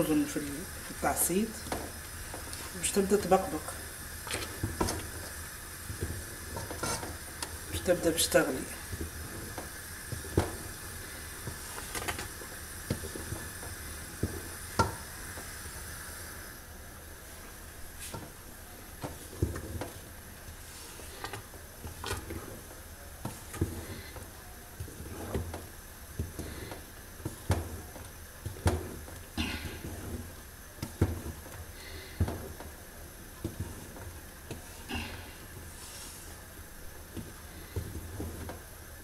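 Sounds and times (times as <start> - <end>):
faint hiss: 0.0 - 39.0
wooden spoon scraping a pot: 0.8 - 15.5, 19.0 - 38.7.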